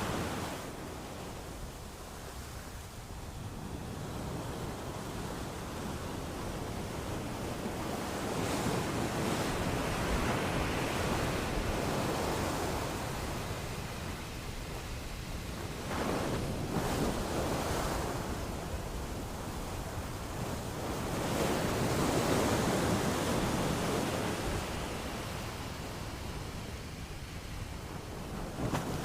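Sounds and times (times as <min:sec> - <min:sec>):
sea waves breaking on beach: 0:00.0 - 0:29.0.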